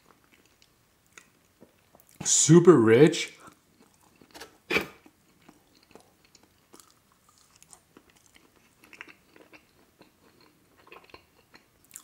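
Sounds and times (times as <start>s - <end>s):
chewing: 0.0s - 2.2s, 3.4s - 12.0s.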